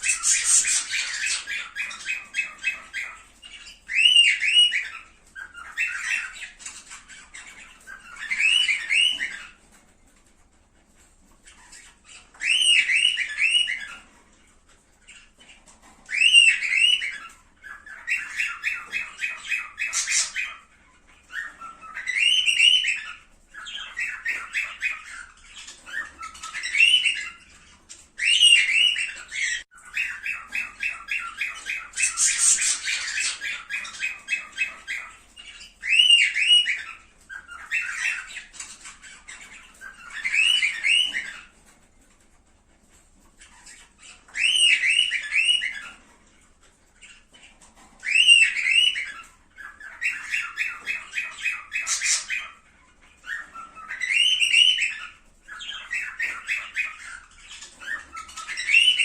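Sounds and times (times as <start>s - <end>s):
cockatiels calling: 0.0s - 59.0s.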